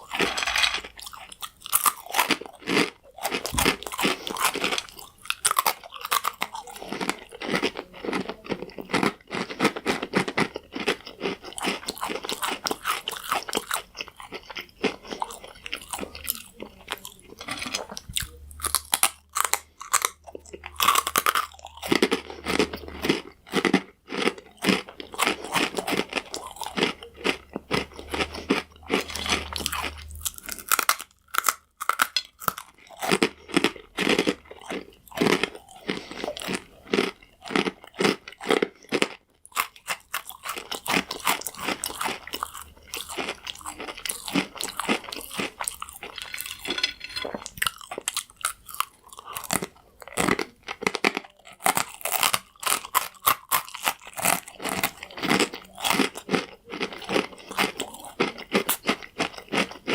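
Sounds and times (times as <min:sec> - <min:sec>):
croutons being crunched: 0:00.0 - 0:59.9.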